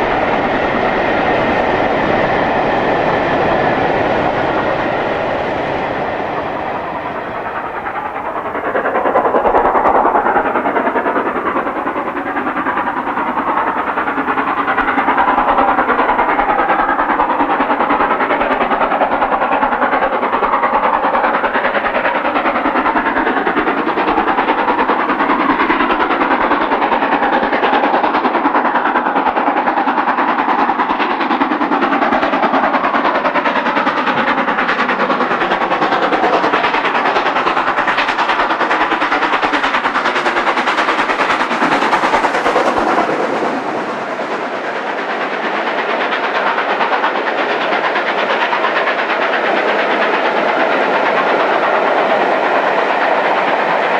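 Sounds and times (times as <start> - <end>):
steam locomotive exhaust: 0.0 - 53.9
train running: 0.0 - 53.9.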